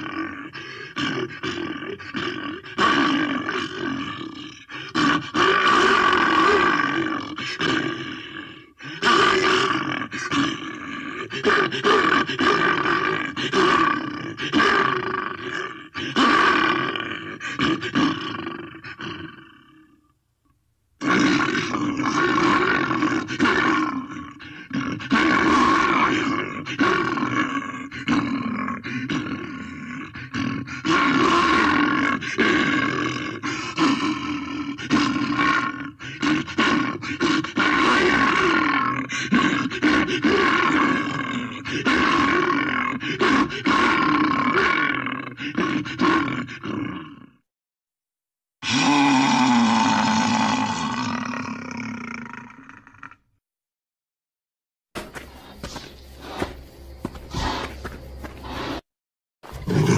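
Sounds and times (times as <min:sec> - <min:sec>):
bear growling and roaring: 0:00.0 - 0:20.2, 0:21.0 - 0:47.4, 0:48.6 - 0:53.4, 0:55.0 - 0:58.8, 0:59.4 - 0:59.9.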